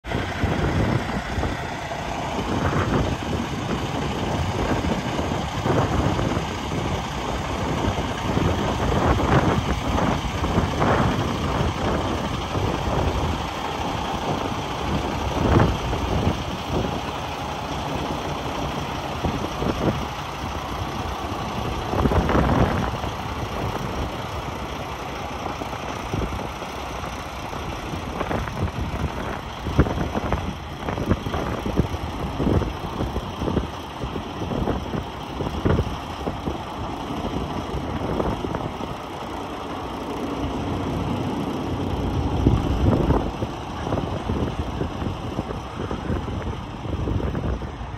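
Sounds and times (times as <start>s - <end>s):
diesel truck engine idling: 0.0s - 47.9s
wind buffeting microphone: 0.0s - 47.9s.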